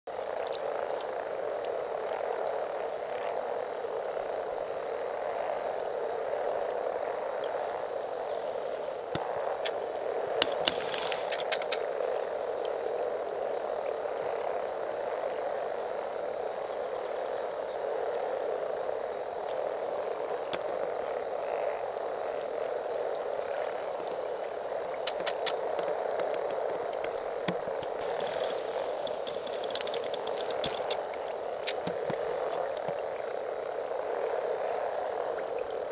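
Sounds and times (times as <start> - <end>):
frog chorus: 0.1 - 35.9.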